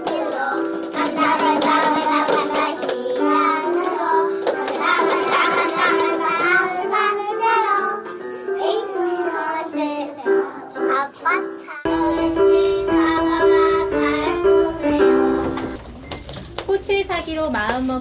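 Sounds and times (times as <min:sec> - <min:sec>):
children singing: 0:00.0 - 0:15.8
piano accompaniment: 0:00.0 - 0:16.2.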